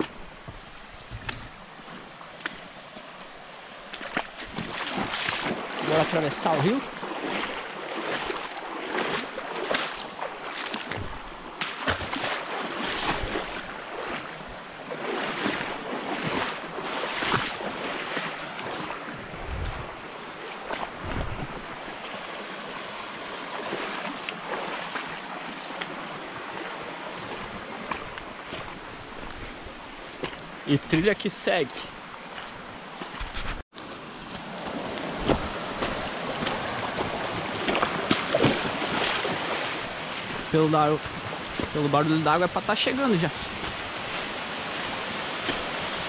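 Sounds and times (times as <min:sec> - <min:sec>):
footsteps splashing through stream: 0:00.0 - 0:46.0
stream water rushing: 0:00.0 - 0:46.0.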